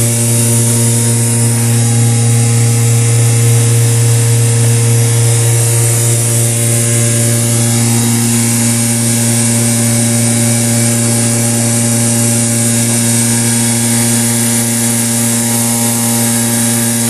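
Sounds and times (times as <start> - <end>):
vacuum machine humming: 0.0 - 17.0.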